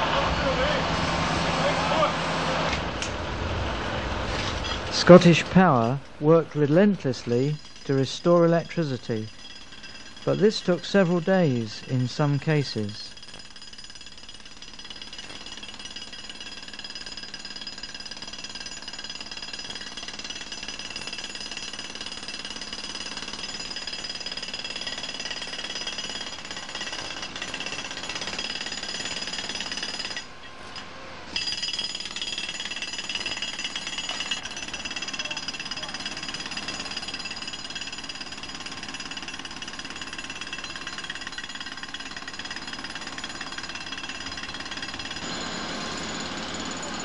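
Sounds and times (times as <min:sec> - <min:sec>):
jackhammer hammering: 0:05.2 - 0:47.0.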